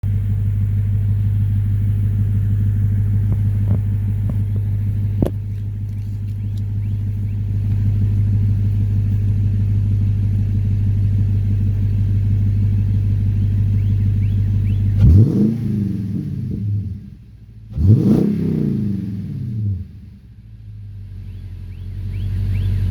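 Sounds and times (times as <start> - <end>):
engine blipped: 0.0 - 20.4, 21.1 - 22.9
car engine idling: 0.0 - 22.9.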